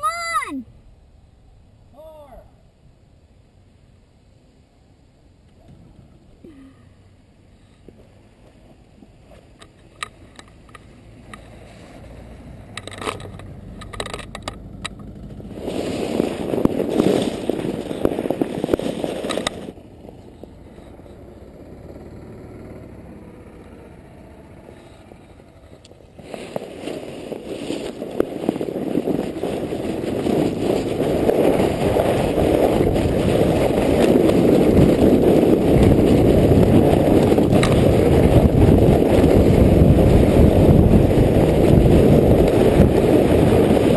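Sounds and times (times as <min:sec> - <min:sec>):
sled scraping over snow: 0:07.5 - 0:43.9.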